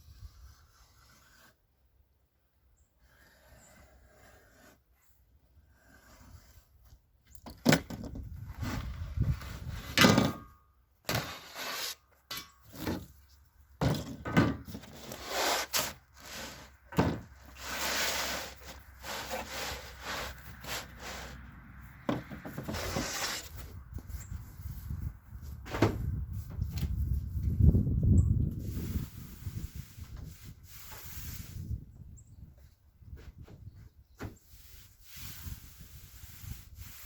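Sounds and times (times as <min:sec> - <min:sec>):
rubbing or scraping: 0:00.0 - 0:01.8, 0:03.0 - 0:07.0, 0:07.9 - 0:27.4, 0:28.6 - 0:31.8, 0:34.2 - 0:37.0.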